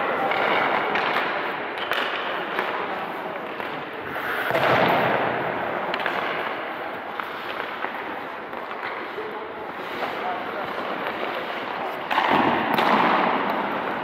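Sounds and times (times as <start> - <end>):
pucks striking: 0.0 - 14.0
skate blades scraping ice: 0.8 - 14.0.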